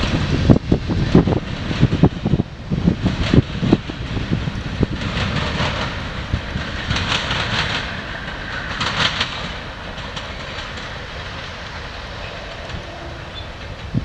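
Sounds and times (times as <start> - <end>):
hissing rail noise: 0.0 - 14.0
train wheels clicking over rail joints: 0.0 - 14.0.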